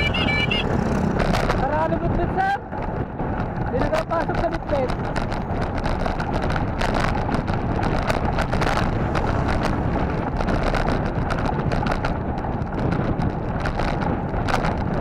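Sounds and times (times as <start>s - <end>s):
wind rushing over microphone: 0.0s - 15.0s
bicycle rolling on paved road: 0.5s - 15.0s.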